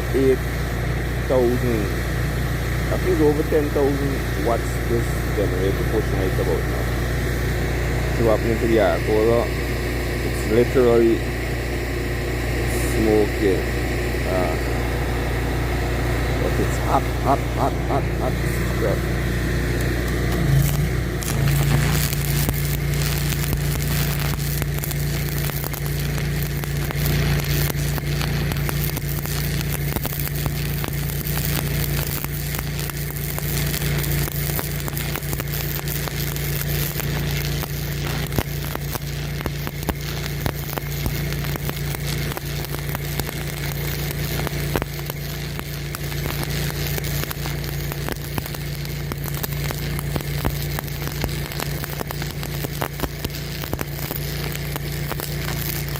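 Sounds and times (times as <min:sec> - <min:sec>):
arc welding crackling: 0:00.0 - 0:55.9
generator engine droning: 0:00.0 - 0:55.9.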